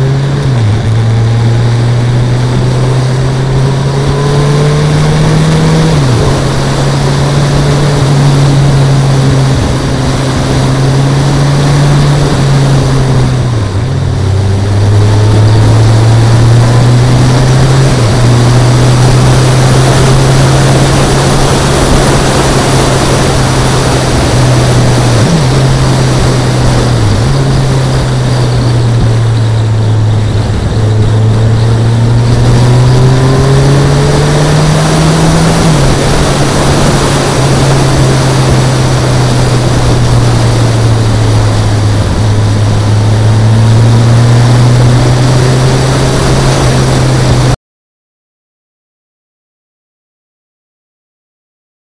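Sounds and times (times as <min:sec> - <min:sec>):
motorcycle engine cruising: 0:00.0 - 0:47.6
wind rush over microphone: 0:00.0 - 0:47.6.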